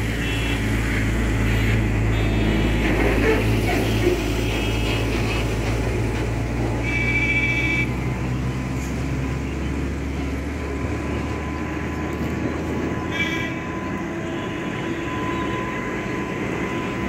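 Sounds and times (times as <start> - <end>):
train locomotive approaching: 0.0 - 7.1, 7.9 - 17.0.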